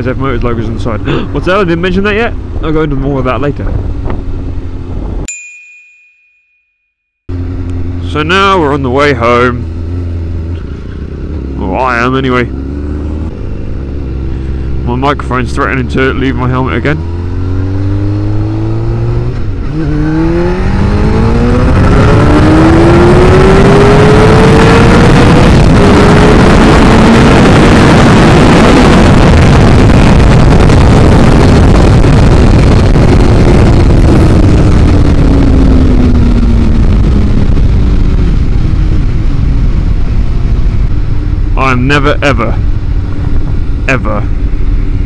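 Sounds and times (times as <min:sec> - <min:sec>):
motorcycle engine accelerating: 0:00.0 - 0:05.3, 0:07.3 - 0:45.0
wind rushing over microphone: 0:00.0 - 0:05.3, 0:07.3 - 0:45.0.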